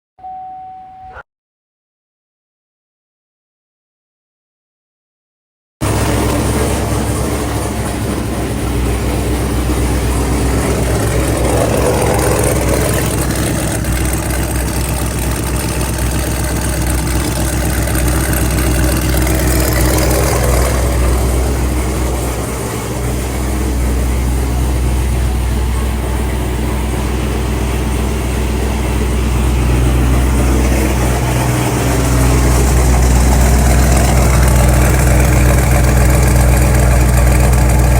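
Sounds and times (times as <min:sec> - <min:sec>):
car engine rumbling: 0:05.8 - 0:37.9.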